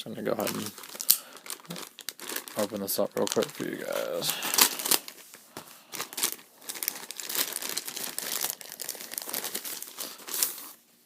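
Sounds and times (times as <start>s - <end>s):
packaging crinkling and tearing: 0.3s - 10.8s.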